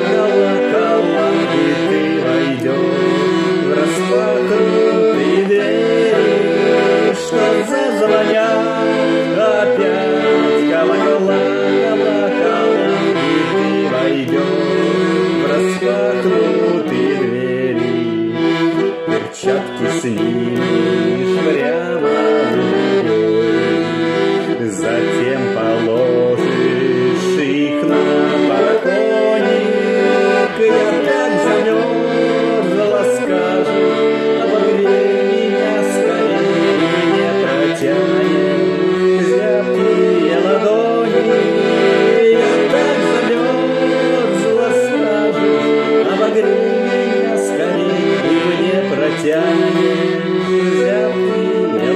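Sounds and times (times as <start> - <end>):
button accordion playing: 0.0 - 51.9.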